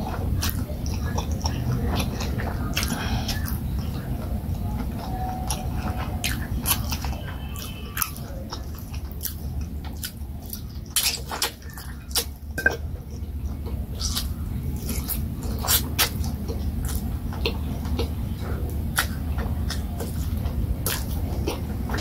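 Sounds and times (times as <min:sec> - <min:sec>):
wet chewing: 0:00.0 - 0:22.0.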